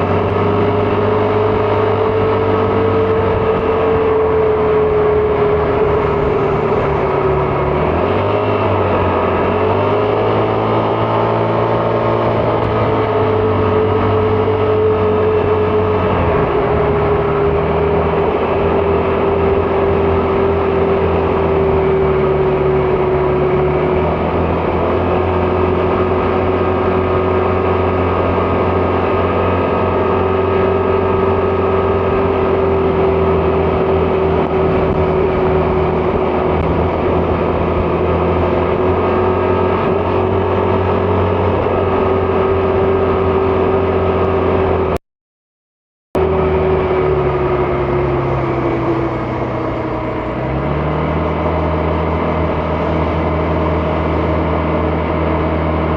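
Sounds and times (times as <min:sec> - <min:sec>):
scooter engine cruising: 0:00.0 - 0:45.0, 0:46.2 - 0:55.9
wind and road noise: 0:00.0 - 0:45.0, 0:46.2 - 0:55.9.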